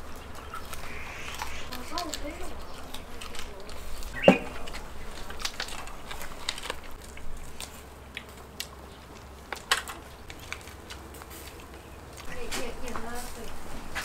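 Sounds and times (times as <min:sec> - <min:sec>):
people chewing ribs off bone: 0:00.0 - 0:14.0.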